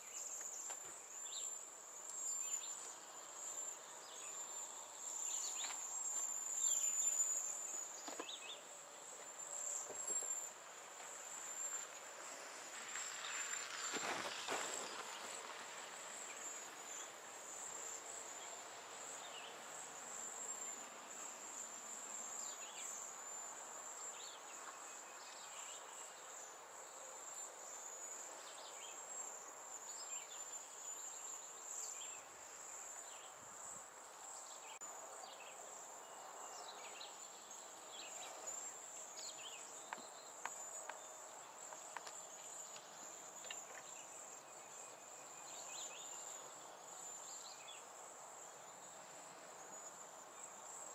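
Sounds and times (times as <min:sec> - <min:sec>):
high-pitched insect trill: 0:00.0 - 0:50.9.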